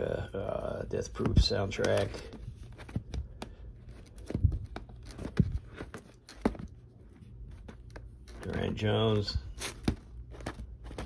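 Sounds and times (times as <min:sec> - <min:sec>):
record sleeves rustling: 0:00.4 - 0:11.0.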